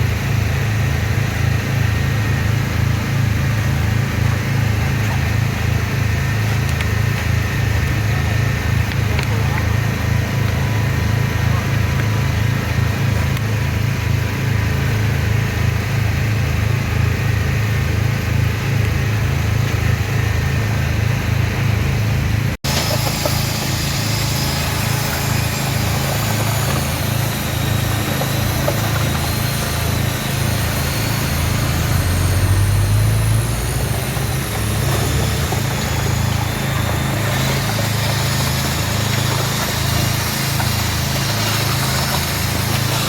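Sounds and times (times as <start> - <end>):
engine humming: 0.0 - 43.0.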